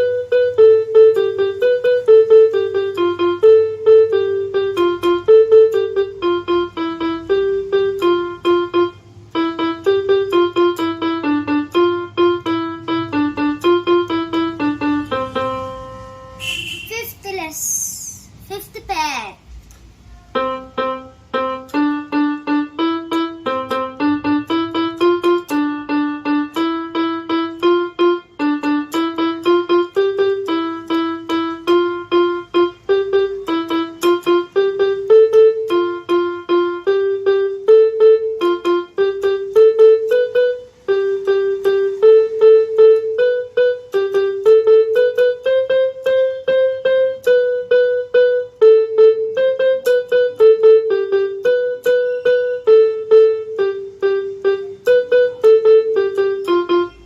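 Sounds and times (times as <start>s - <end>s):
electronic keyboard melody: 0.0s - 17.5s, 19.8s - 57.0s.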